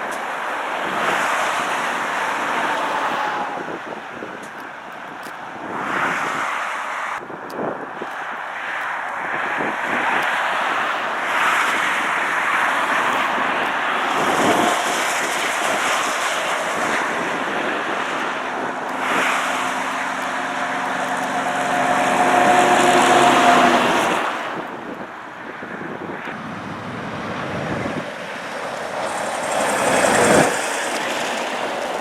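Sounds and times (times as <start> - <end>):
engine hum: 0.0 - 32.0
road and wind noise: 0.0 - 32.0.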